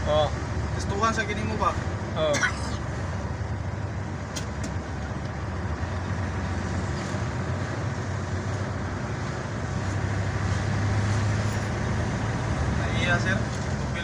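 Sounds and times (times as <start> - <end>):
vehicle cabin engine and road noise: 0.0 - 14.0.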